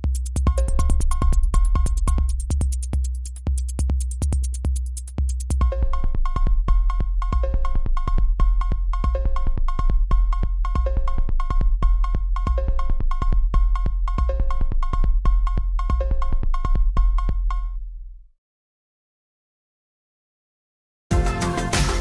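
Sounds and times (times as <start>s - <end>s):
drum-machine beat: 0.0s - 17.6s, 21.1s - 22.0s.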